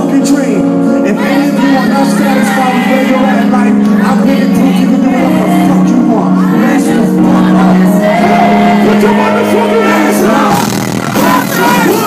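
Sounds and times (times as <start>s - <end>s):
loud live concert music: 0.0s - 12.0s
voices singing and shouting: 1.0s - 12.0s.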